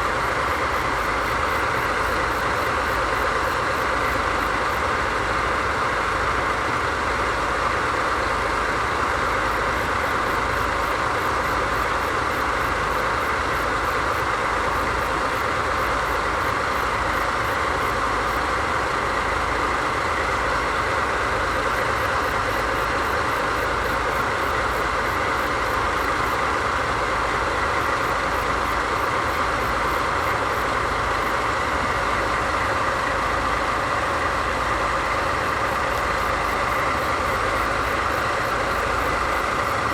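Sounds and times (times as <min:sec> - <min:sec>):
locomotive diesel engines idling: 0:00.0 - 0:39.9.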